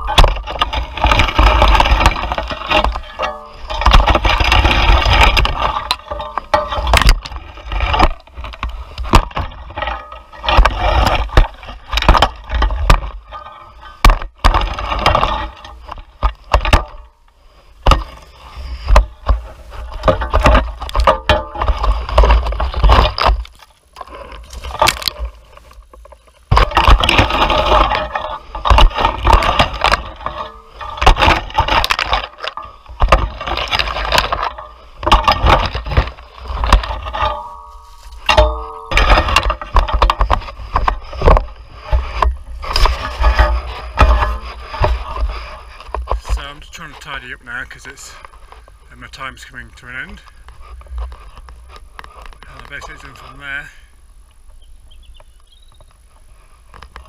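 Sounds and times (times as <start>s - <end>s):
twigs cracking and snapping: 0.0s - 49.3s, 50.0s - 53.6s
metal rake scraping brush: 0.0s - 53.8s.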